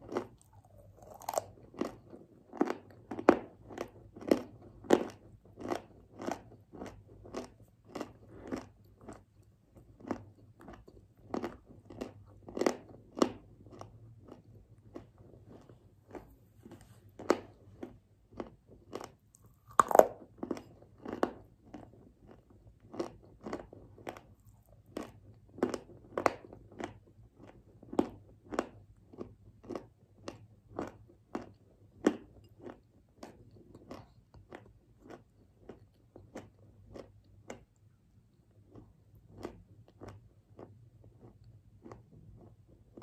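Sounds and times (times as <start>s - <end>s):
chewing clay paste: 0.0s - 43.0s.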